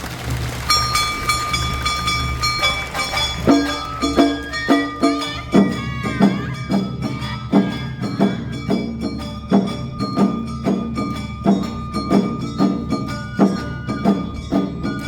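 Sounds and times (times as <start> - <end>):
drums beating: 0.0 - 15.0
shamisen playing: 0.1 - 15.0
flute melody: 0.7 - 15.0
hand gong: 0.7 - 15.0.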